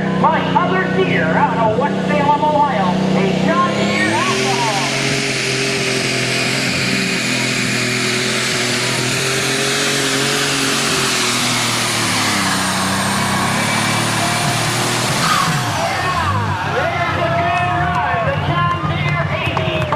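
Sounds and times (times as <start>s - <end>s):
tractor engine running flat out: 0.0s - 19.9s.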